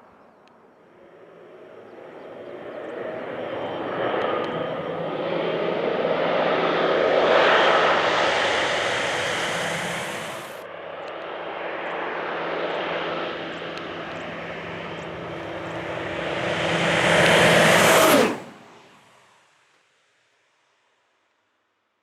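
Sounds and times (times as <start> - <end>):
turboprop plane flying low: 0.3 - 19.1.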